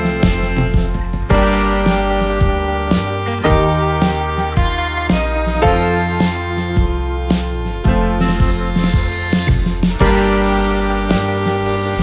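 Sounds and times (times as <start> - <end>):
guitar background music: 0.0 - 12.0.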